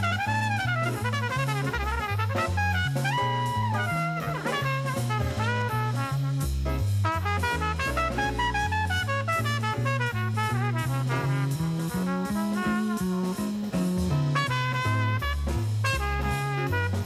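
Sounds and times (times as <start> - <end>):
drums keeping time: 0.0 - 17.0
horn melody: 0.0 - 17.0
walking bass line: 0.0 - 17.0.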